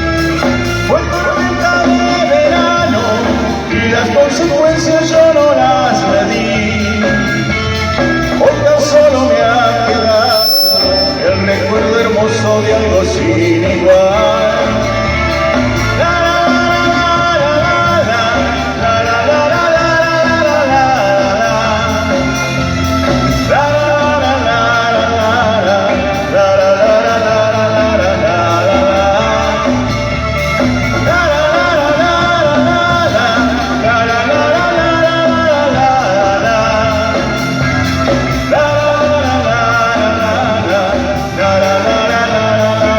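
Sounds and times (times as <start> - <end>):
live band playing romantic song: 0.0 - 42.9.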